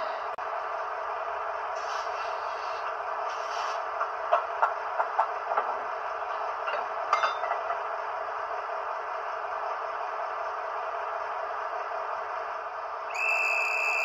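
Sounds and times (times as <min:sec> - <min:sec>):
model train mechanical hum: 0:00.0 - 0:14.0.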